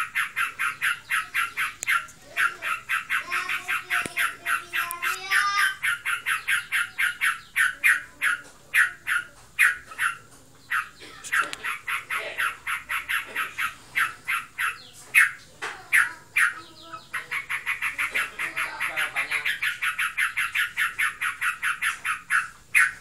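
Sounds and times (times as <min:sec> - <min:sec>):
bird giving sharp rapid calls: 0:00.0 - 0:23.0.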